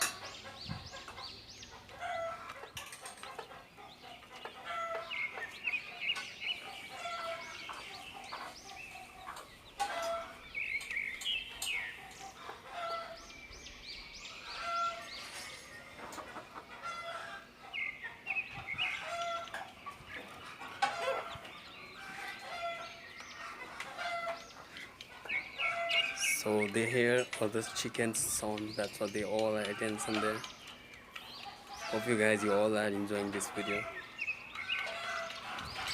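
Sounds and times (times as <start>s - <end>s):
hen clucking: 0.0s - 13.3s, 14.3s - 35.9s
chicks peeping: 0.0s - 35.9s.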